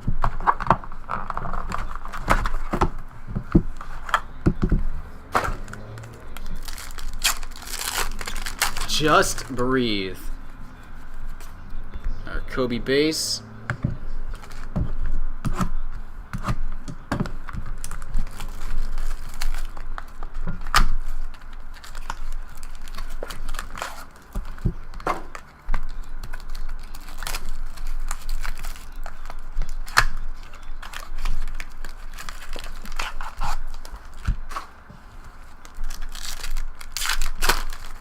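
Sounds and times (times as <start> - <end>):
card wrappers tearing and crinkling: 0.2 - 10.3, 14.0 - 14.7, 17.5 - 34.8, 35.4 - 38.0.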